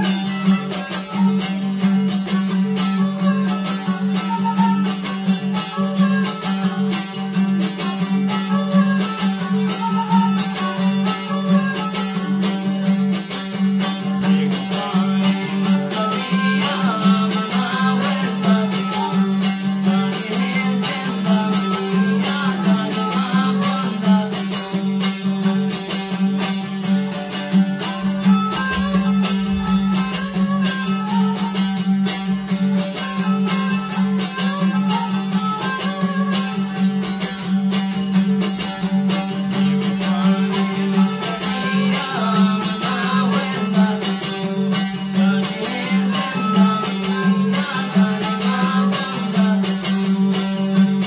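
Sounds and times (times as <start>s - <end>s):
bowed fiddle melody: 0.0s - 51.0s
strummed lute: 0.0s - 51.0s.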